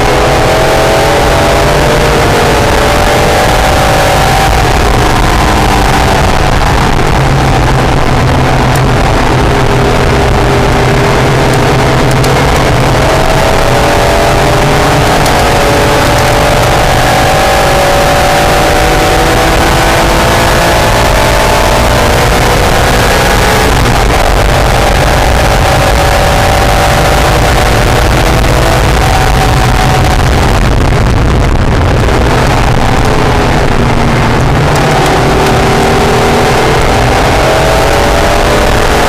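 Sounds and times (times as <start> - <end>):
car engine revving: 0.0 - 39.0
wind noise: 0.0 - 39.0.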